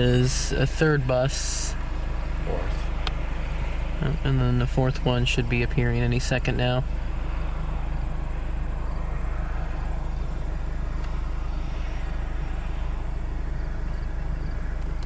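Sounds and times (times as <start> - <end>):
road vehicle rumble and hiss: 0.0 - 15.0.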